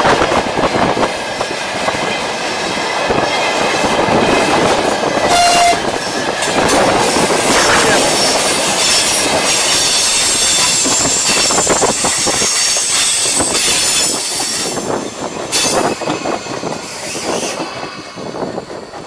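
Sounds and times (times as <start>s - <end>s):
train wheels rushing on rails: 0.0s - 19.0s.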